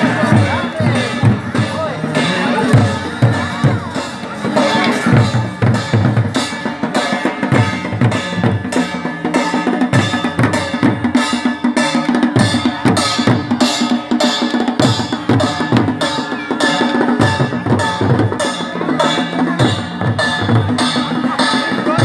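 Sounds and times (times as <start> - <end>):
large drums beaten fast: 0.0 - 22.0.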